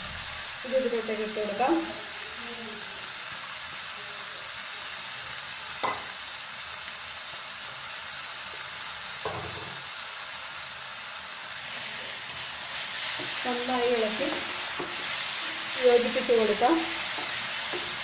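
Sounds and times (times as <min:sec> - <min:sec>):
onion and tomato sizzling: 0:00.0 - 0:18.0.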